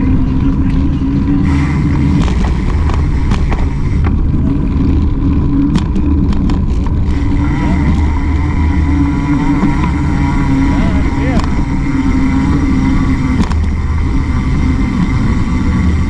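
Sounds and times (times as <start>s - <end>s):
rattling clicks on rough pavement: 0.0s - 16.0s
small bike motor running: 0.0s - 16.0s.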